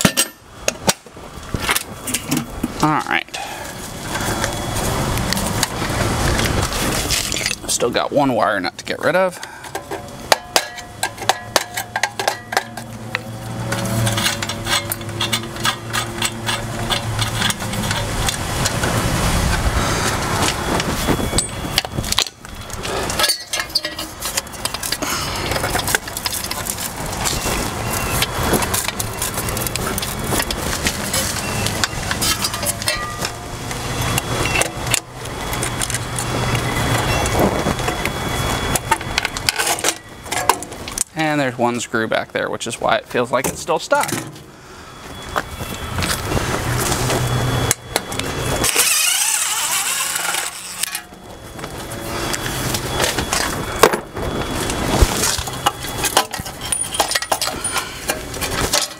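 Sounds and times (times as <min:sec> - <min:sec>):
engine-like machine drone: 0:00.0 - 0:58.9.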